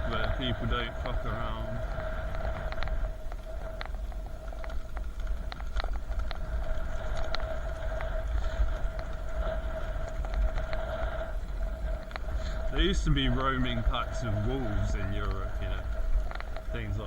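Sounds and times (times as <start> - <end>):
bicycle rolling noise: 0.0 - 17.0
clicks and ticks: 0.0 - 17.0
steady whine: 0.0 - 17.0
wind rumble on microphone: 0.0 - 17.0.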